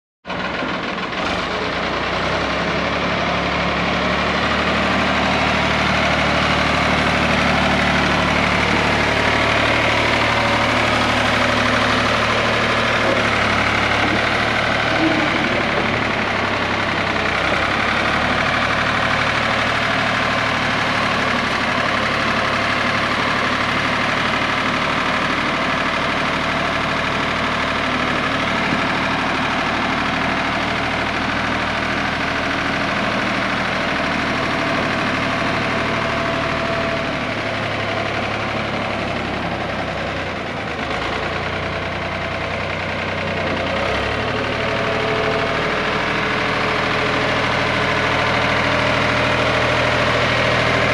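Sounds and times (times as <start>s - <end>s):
tractor engine running: 0.3s - 50.9s.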